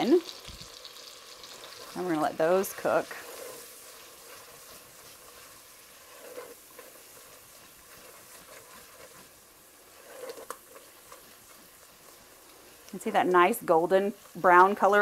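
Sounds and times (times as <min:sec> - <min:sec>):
spices sizzling in oil: 0:00.0 - 0:15.0
spatula stirring and scraping: 0:00.3 - 0:15.0.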